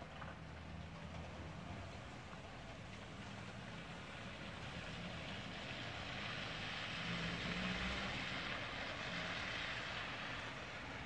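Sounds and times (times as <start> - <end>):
hiss of wet snow falling: 2.1 - 11.0.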